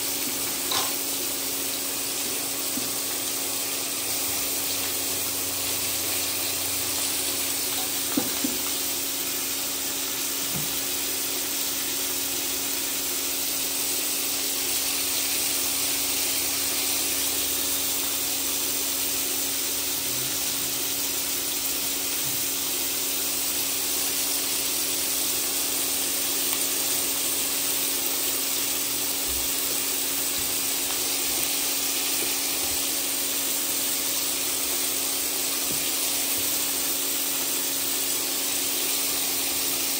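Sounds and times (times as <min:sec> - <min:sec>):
meat sizzling in a pan: 0:00.0 - 0:39.9.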